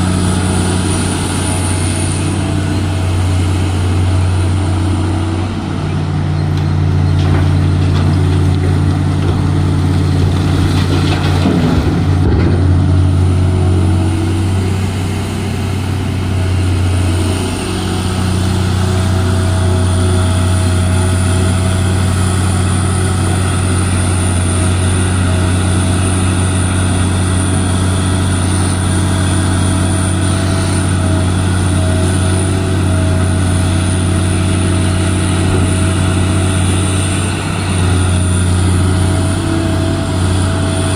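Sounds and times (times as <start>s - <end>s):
large diesel engine droning: 0.0s - 40.9s.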